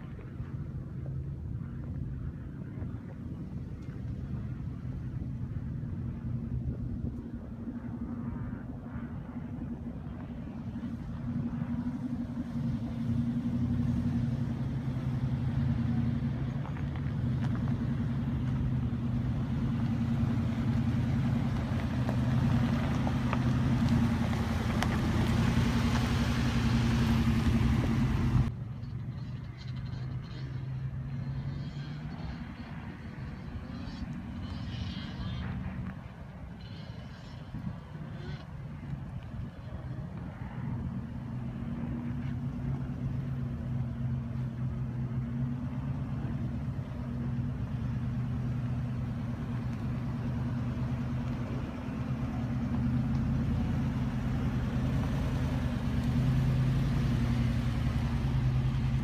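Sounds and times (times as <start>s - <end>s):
suv engine running under load: 8.8s - 30.4s, 31.3s - 59.0s.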